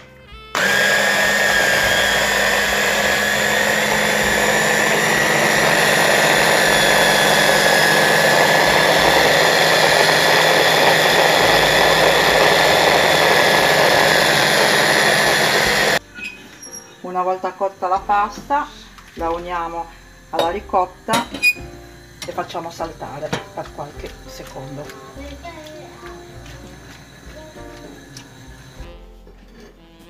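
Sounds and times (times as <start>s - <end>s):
electric hand blender whirring: 0.5s - 16.1s, 17.8s - 28.9s.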